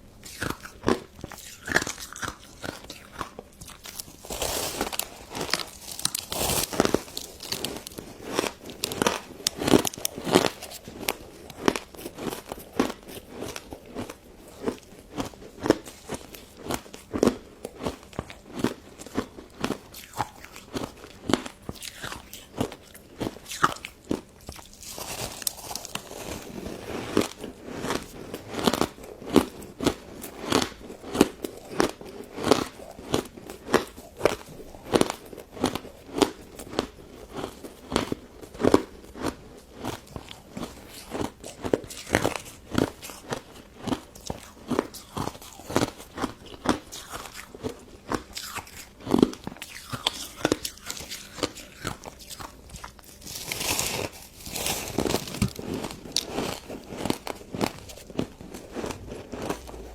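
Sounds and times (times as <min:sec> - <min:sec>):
crunching and chewing ice dessert: 0:00.0 - 0:59.9.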